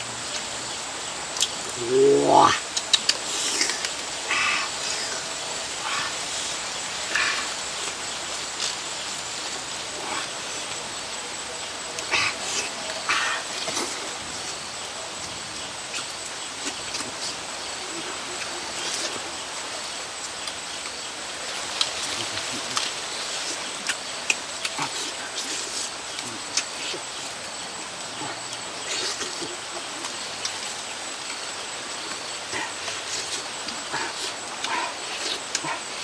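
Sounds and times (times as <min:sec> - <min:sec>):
steady outdoor hiss: 0:00.0 - 0:36.0.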